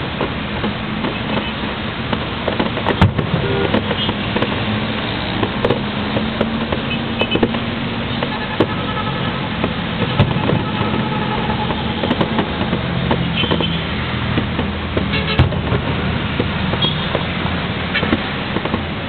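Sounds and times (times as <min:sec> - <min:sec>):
firework shells bursting: 0:00.1 - 0:19.0.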